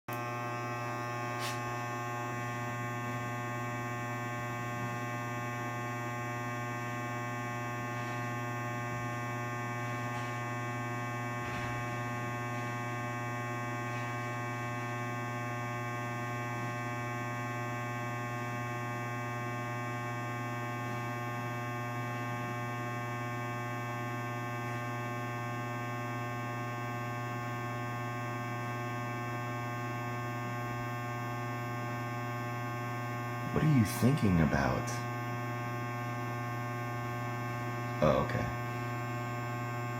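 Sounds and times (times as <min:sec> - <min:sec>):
electrical hum: 0:00.1 - 0:39.9.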